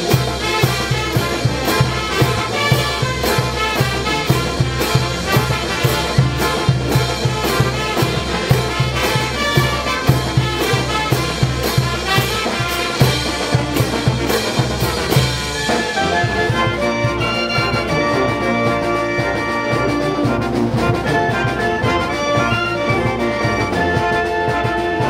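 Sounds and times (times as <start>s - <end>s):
brass band playing: 0.0s - 25.0s
drums and crash cymbals: 0.0s - 25.0s.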